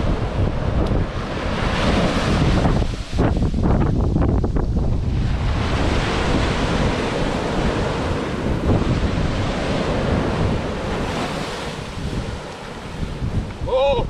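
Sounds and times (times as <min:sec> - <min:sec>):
surf breaking on beach: 0:00.0 - 0:14.0
wind rumbling on microphone: 0:00.0 - 0:14.0.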